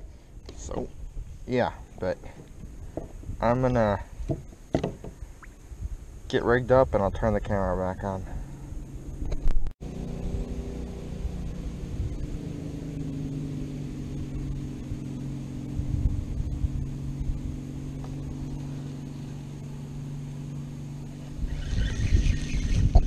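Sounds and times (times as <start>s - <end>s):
boat motor humming: 0.0s - 6.0s, 7.5s - 23.0s.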